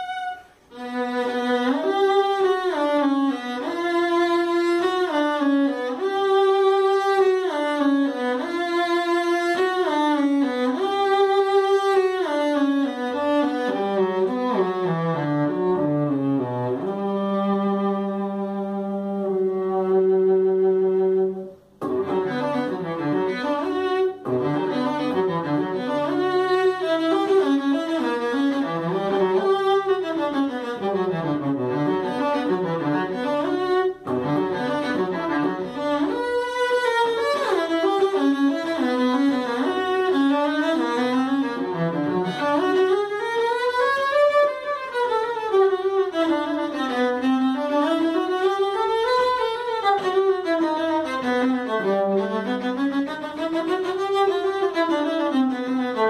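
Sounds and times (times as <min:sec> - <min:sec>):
bowed cello: 0:00.0 - 0:56.0.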